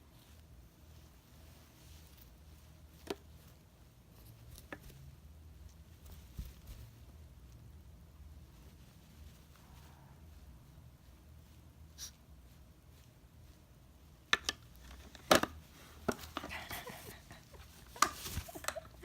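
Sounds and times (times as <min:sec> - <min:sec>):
faint rustling: 0:00.0 - 0:19.0.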